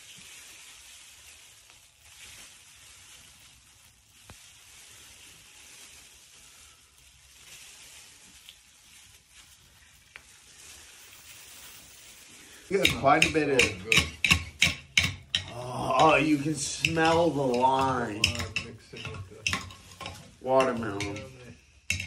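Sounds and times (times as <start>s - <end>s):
rustling of gloved hands squeezing: 0.0s - 22.0s.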